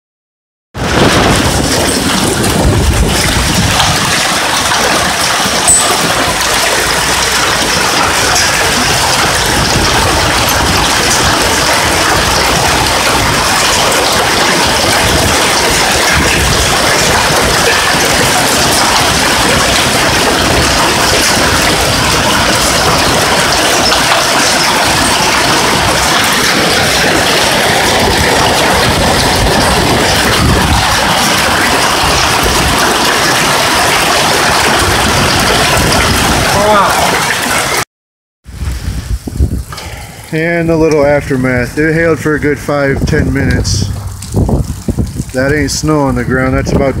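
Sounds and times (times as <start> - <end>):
hail and rain falling hard: 0.8 - 37.8, 38.5 - 47.0.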